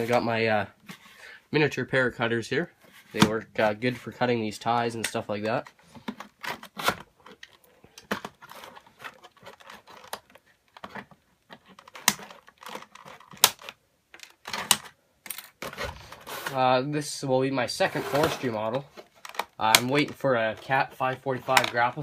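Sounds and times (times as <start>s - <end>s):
plastic handling noise: 2.6s - 16.9s, 17.6s - 22.0s.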